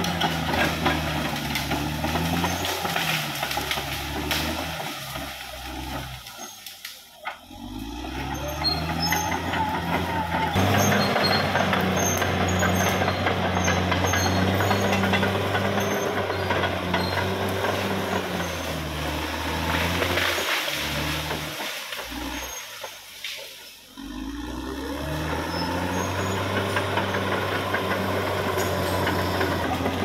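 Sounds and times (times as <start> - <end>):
bulldozer diesel engine droning: 0.0 - 30.0
engine rattle: 0.0 - 30.0.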